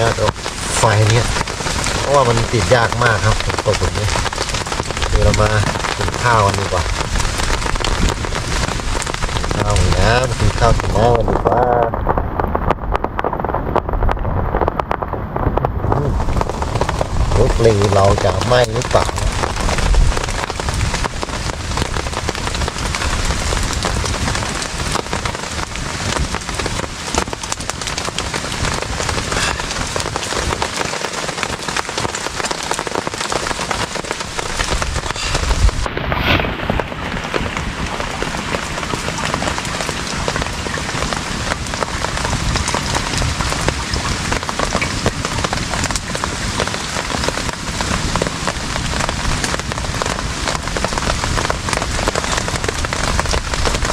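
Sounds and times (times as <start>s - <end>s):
rain on a tarp: 0.0s - 53.9s.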